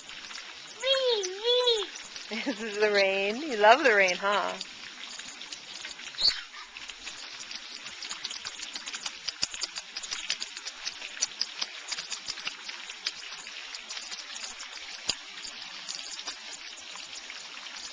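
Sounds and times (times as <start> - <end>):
rain hiss: 0.0 - 17.9
raindrops ticking: 0.0 - 17.9.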